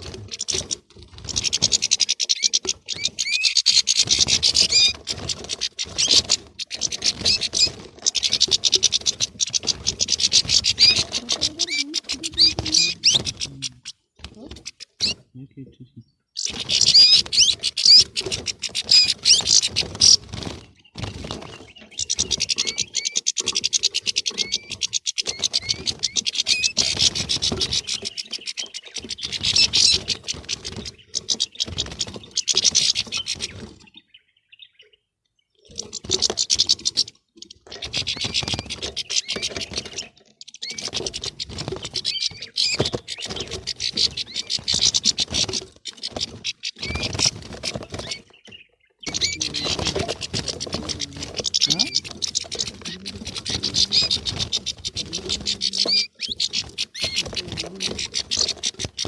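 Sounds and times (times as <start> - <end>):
finches twittering and chattering: 0.0 - 59.0.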